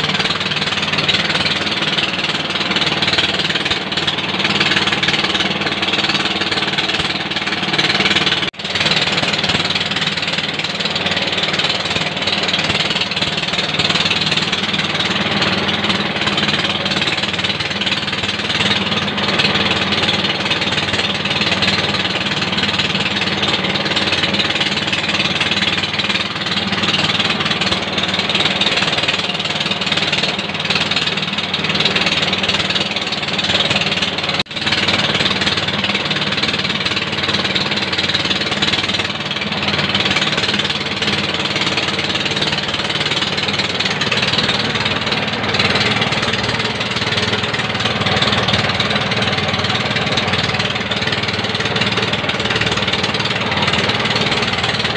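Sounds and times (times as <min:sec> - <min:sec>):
diesel engine running: 0:00.0 - 0:54.9
rice mill rattling grind: 0:00.0 - 0:54.9.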